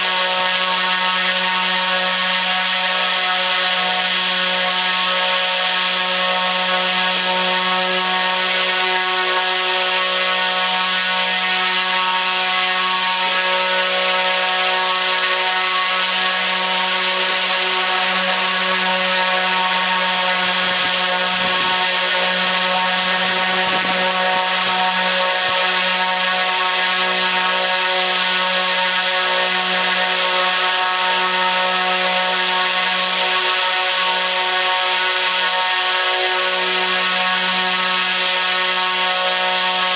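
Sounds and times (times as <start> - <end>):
motor and propeller buzzing drone: 0.0 - 39.9.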